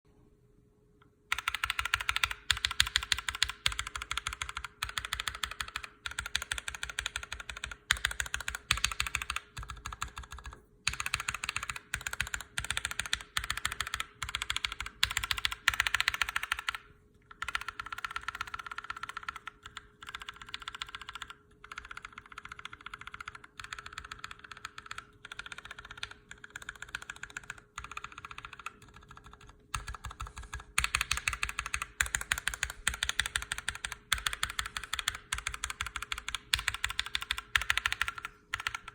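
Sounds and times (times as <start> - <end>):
fast mechanical keyboard typing: 1.3 - 38.9.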